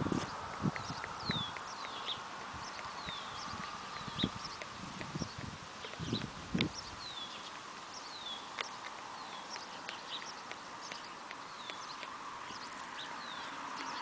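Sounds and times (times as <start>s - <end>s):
background hiss: 0.0s - 14.0s
small birds chirping: 0.0s - 14.0s.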